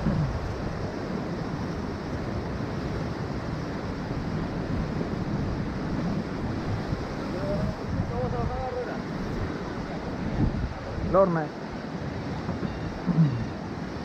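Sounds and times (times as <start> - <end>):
ocean surf breaking on rocks: 0.0 - 14.0
wind buffeting microphone: 0.0 - 14.0.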